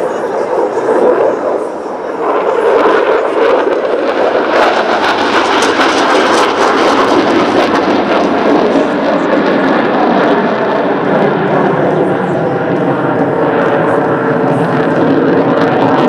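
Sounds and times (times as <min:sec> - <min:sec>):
loud jet noise: 0:00.0 - 0:16.0.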